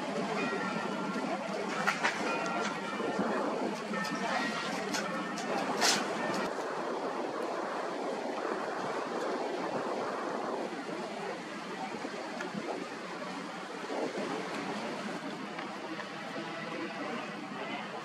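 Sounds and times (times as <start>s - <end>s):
wind on microphone: 0.0s - 16.1s
sea water: 0.0s - 18.0s.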